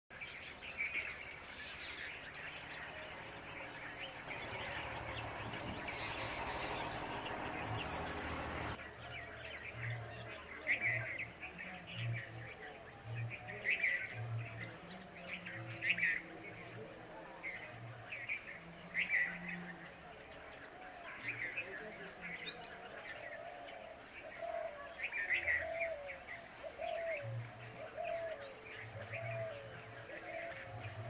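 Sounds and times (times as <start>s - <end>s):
birds chirping: 0.1s - 31.0s.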